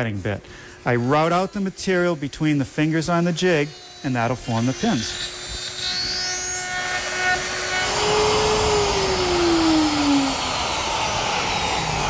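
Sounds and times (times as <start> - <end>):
router cutting wood: 0.9 - 12.0.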